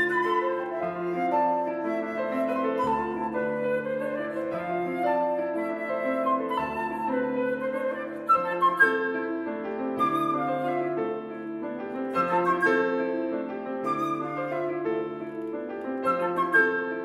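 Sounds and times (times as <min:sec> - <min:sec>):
flute and piano playing: 0:00.0 - 0:17.0.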